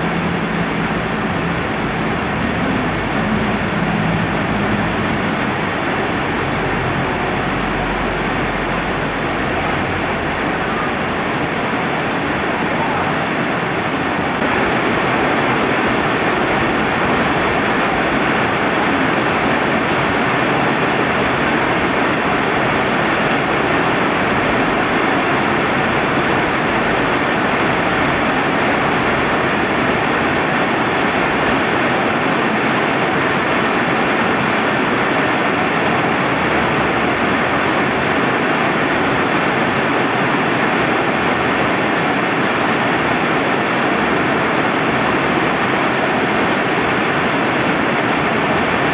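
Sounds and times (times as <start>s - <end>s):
river flowing: 0.0s - 48.9s
steady rain: 0.0s - 48.9s.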